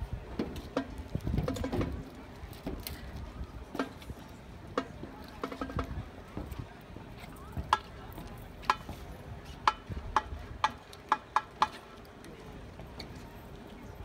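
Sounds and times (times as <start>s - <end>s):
low background murmur: 0.0s - 14.0s.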